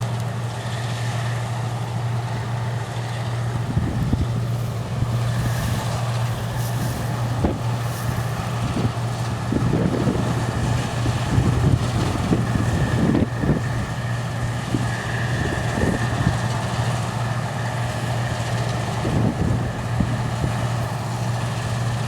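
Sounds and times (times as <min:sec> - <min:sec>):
harvest machinery engine hum: 0:00.0 - 0:22.0
wind buffeting microphone: 0:03.4 - 0:22.0.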